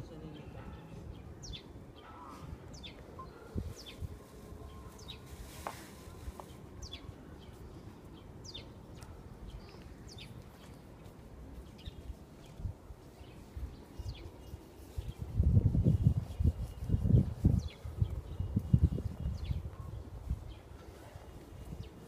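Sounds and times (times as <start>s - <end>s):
small birds chirping: 0.0s - 5.3s, 6.4s - 20.8s.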